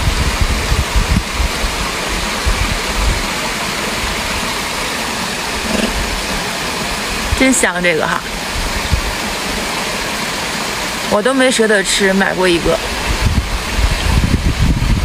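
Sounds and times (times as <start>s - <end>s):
rushing flowing water: 0.0s - 15.0s.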